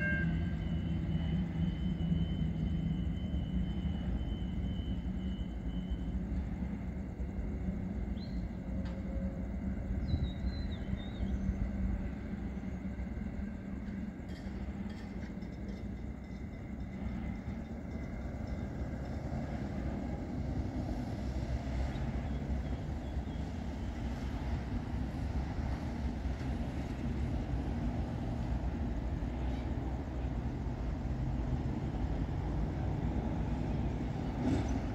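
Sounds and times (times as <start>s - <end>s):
road vehicles rumbling: 0.0s - 34.9s.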